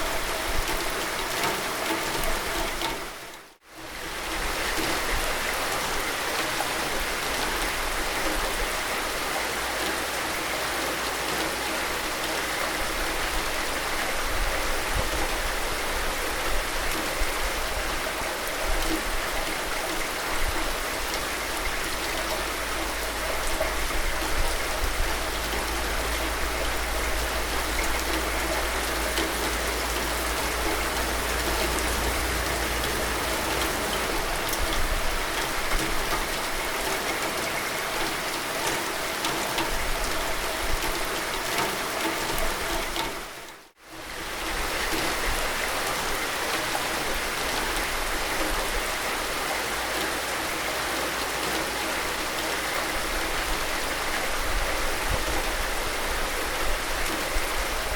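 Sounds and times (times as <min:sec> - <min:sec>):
steady rain hissing: 0:00.0 - 0:57.9.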